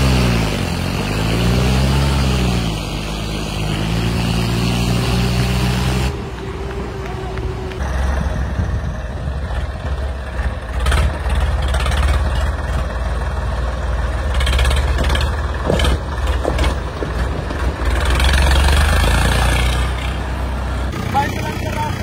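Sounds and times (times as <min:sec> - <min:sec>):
tractor diesel engine rumbling: 0:00.0 - 0:22.0.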